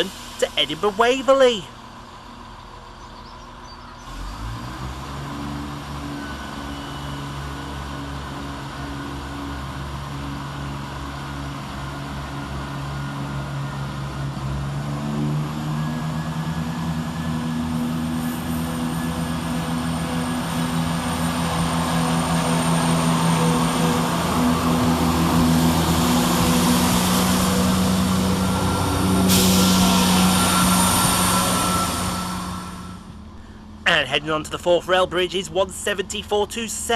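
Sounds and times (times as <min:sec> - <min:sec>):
wheel and rail noise: 0:00.0 - 0:35.9
diesel train engines throttling up: 0:00.0 - 0:36.9.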